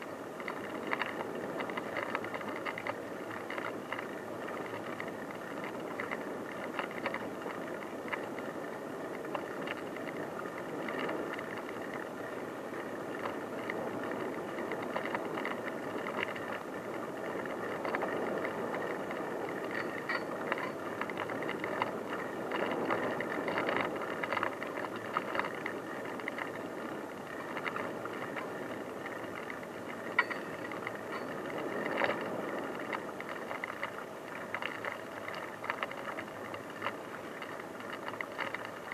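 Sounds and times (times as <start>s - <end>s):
bicycle tyres rolling on dirt: 0.0s - 38.9s
bike rattles and clicks: 0.0s - 38.9s.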